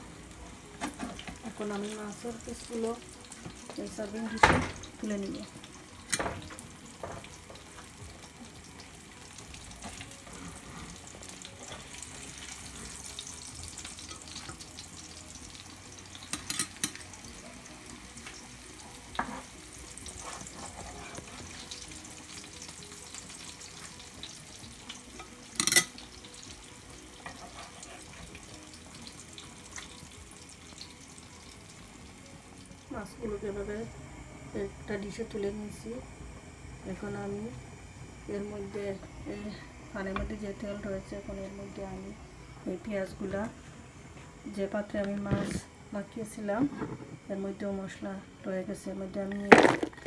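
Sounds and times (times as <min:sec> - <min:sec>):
fish sizzling in hot oil: 0:00.0 - 0:47.3.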